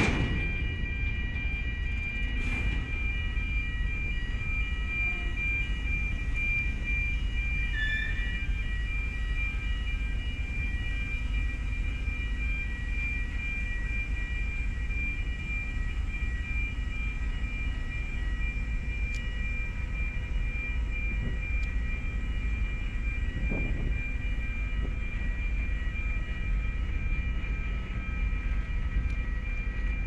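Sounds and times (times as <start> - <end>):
ferry engines rumbling: 0.0 - 30.0.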